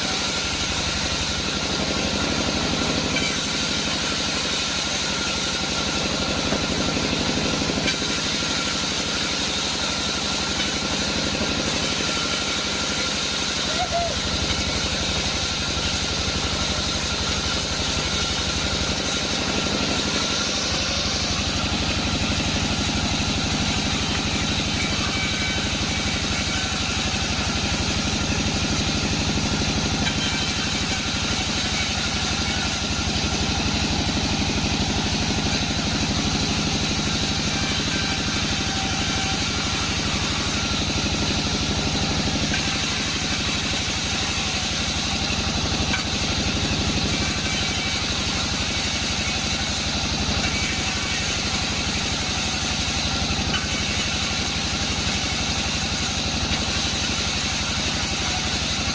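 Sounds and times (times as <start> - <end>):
sawmill engine droning: 0.0 - 58.9.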